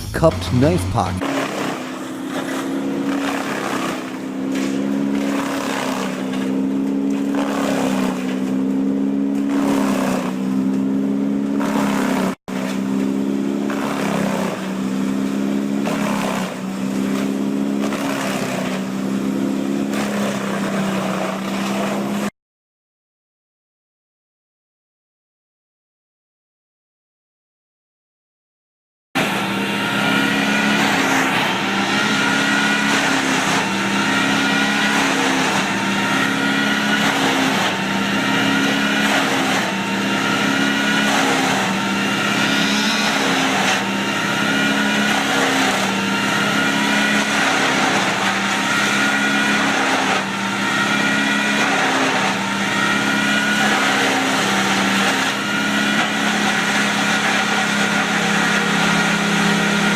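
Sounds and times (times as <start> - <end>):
wood chipper droning rhythmically: 0.0 - 22.3, 29.2 - 59.9.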